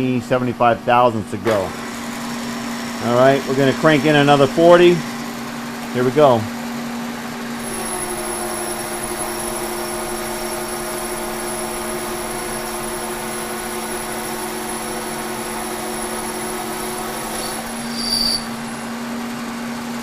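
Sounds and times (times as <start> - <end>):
milling machine humming: 0.0 - 20.0.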